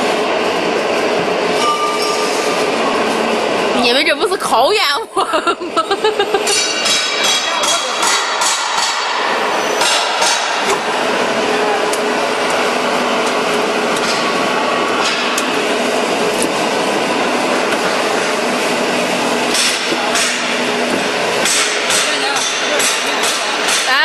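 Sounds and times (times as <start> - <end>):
roll forming machine running: 0.0 - 24.0.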